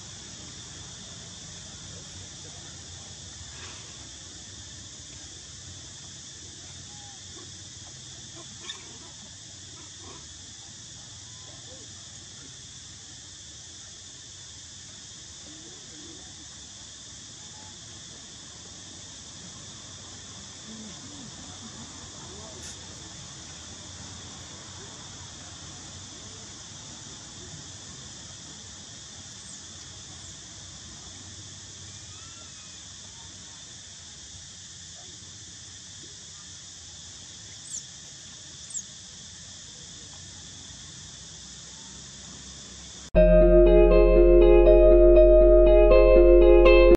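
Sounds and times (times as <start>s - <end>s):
insects droning: 0.0s - 43.1s.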